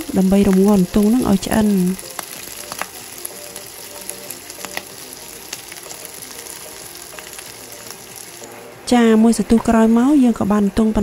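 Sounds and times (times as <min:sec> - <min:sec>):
sauce simmering and sizzling: 0:00.0 - 0:09.2.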